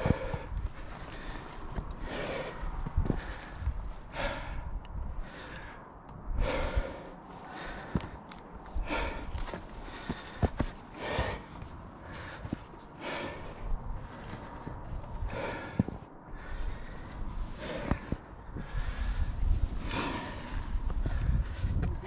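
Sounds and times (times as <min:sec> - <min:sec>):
heavy breathing: 0:00.0 - 0:22.0.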